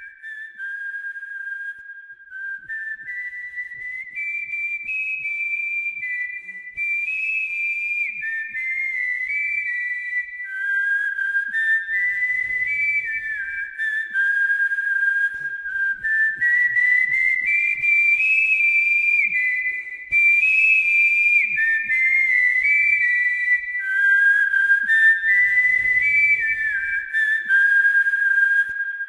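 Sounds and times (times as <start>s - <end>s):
person whistling a melody: 0.0s - 29.0s.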